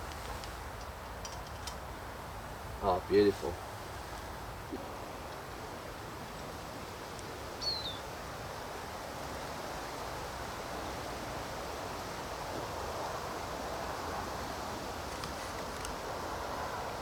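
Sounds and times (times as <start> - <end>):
woodland background noise: 0.0 - 17.0.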